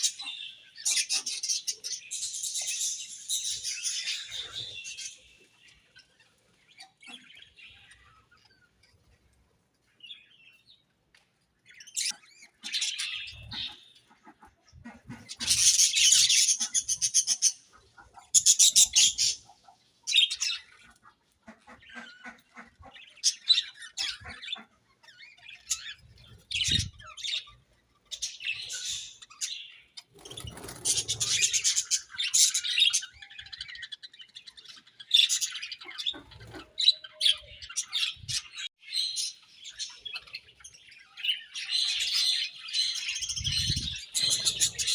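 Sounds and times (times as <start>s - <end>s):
budgerigars chirping and chattering: 0.0s - 9.2s, 11.6s - 44.9s.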